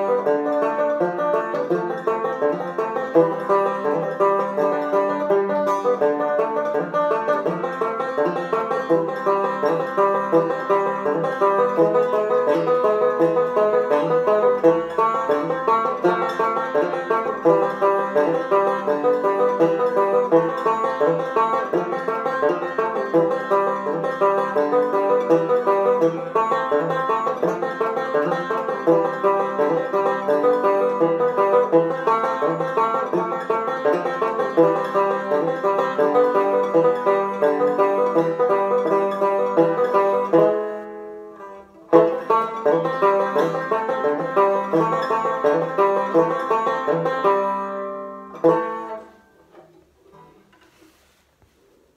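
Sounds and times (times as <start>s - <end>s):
fingerpicked banjo: 0.0s - 51.9s.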